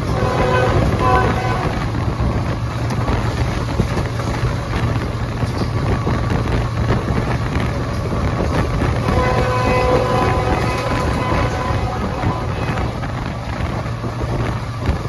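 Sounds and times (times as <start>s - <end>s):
locomotive engine drone: 0.0s - 15.0s
train rumbling on track: 0.0s - 15.0s.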